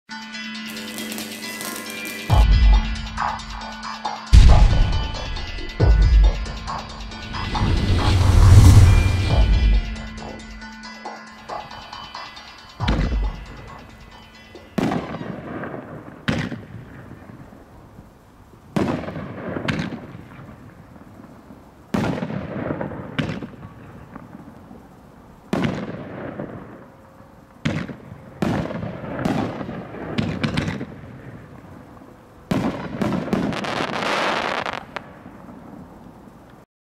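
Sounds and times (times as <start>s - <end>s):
firework crackling: 0.7s - 2.4s, 4.4s - 10.6s, 14.6s - 36.6s.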